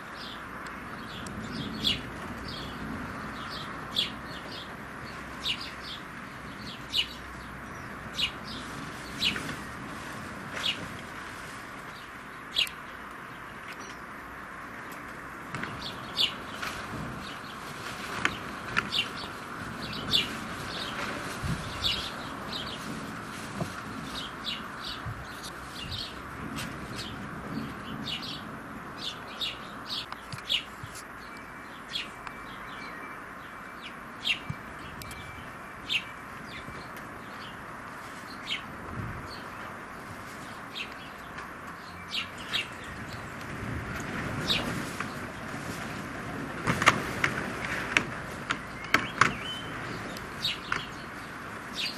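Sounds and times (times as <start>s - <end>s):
sparrows chirping: 0.0s - 51.9s
steady background noise: 0.0s - 51.9s.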